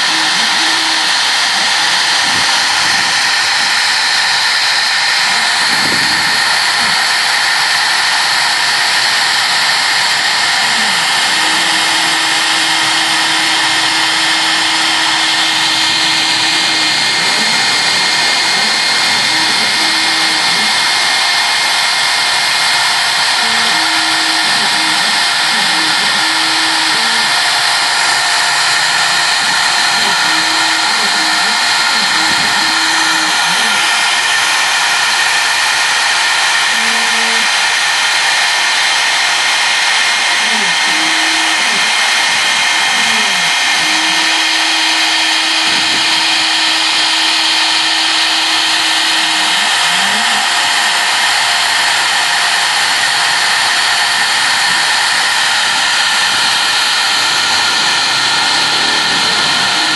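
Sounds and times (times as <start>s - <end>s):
motor tones: 0.0s - 59.9s
router spindle whirring: 0.0s - 59.9s.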